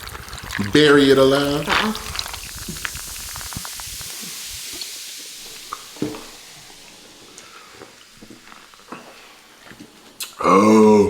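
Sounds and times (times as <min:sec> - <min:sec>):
drink fizzing: 0:00.0 - 0:10.4.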